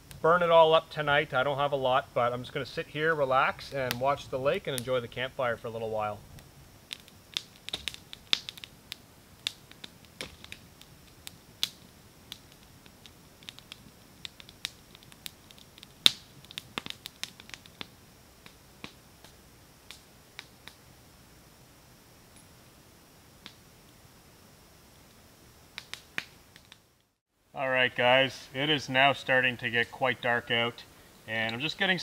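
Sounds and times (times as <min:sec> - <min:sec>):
campfire crackling and popping: 0:00.0 - 0:27.2, 0:27.8 - 0:32.0.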